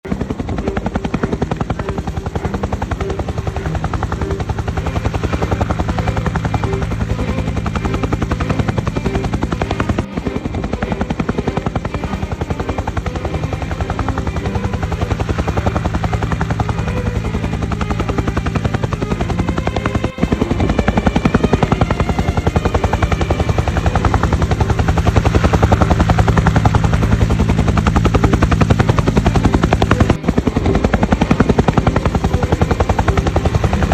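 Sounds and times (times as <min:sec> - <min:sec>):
helicopter engine drone: 0:00.0 - 0:33.9
helicopter rotor chopping: 0:00.0 - 0:33.9.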